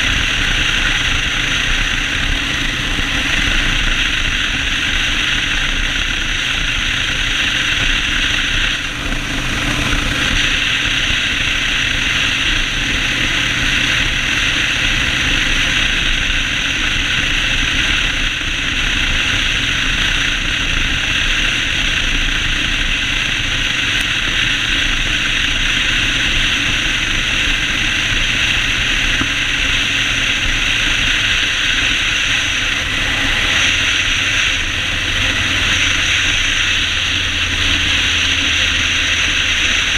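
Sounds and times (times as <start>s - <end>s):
motorcycle engine running: 0.0s - 39.9s
riding wind hiss: 0.0s - 39.9s.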